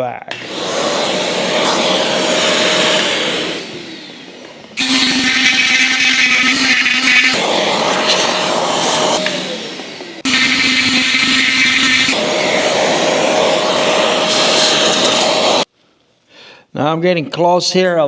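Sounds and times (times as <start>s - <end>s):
rotary tool grinding whine: 0.4s - 15.7s.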